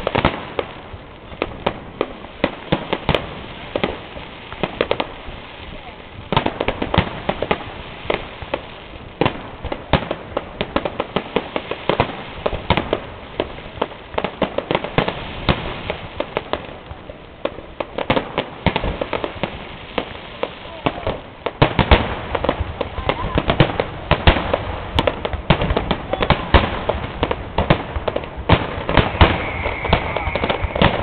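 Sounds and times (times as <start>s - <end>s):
fireworks bangs and cracks: 0.0s - 31.0s.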